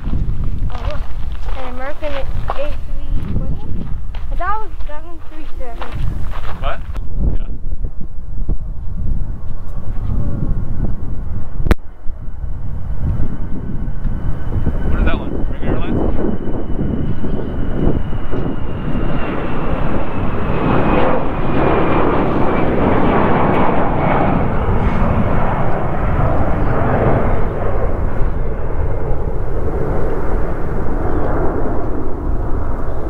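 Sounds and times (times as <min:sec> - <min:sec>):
jet airliner taking off: 0:06.0 - 0:33.0
high engine whine falling in pitch: 0:06.2 - 0:33.0.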